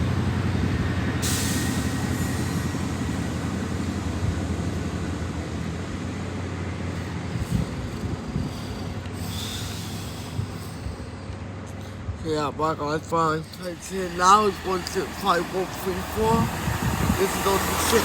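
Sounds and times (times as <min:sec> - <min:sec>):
diesel train engines droning: 0:00.0 - 0:18.0.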